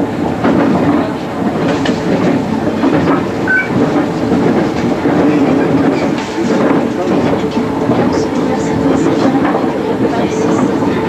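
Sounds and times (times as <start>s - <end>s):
train wheels clacking over rail joints: 0.0s - 11.0s.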